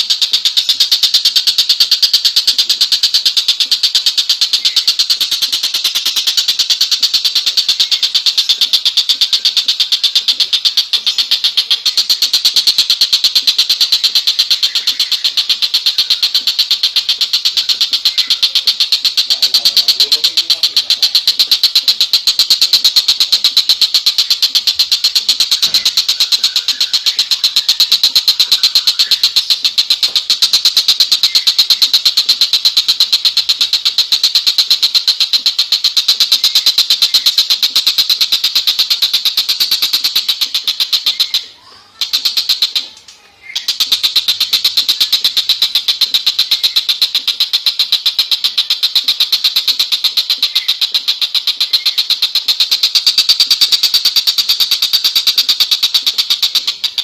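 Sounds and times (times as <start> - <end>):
bird singing a rattling trill: 0.0 - 57.0.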